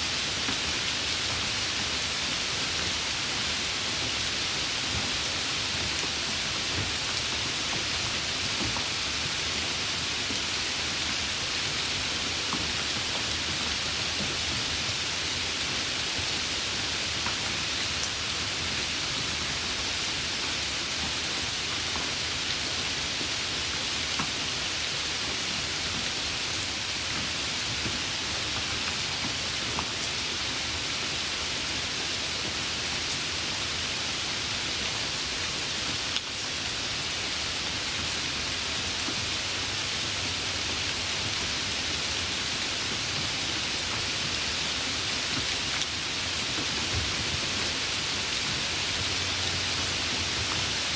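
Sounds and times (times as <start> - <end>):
light rain hissing: 0.0 - 50.9.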